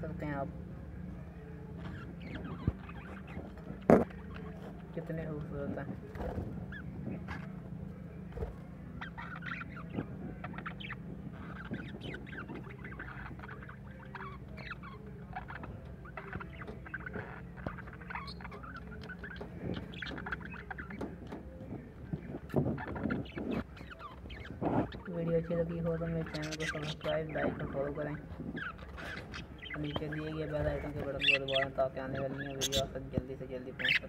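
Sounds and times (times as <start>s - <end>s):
steady low hum: 0.0s - 34.0s
budgerigars chattering and chirping: 1.7s - 34.0s.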